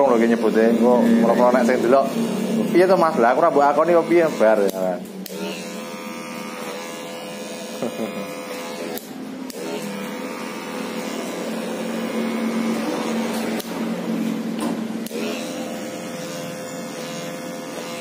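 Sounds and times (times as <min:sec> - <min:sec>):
electric hair clippers humming: 0:00.0 - 0:18.0.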